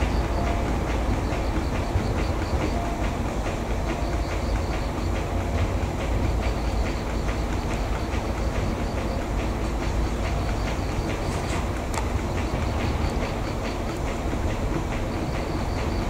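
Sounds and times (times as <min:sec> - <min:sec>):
locomotive low rumble: 0:00.0 - 0:16.0.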